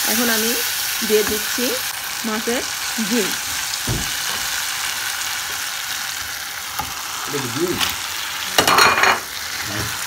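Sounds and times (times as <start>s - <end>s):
masala sizzling in a frying pan: 0.0s - 10.0s.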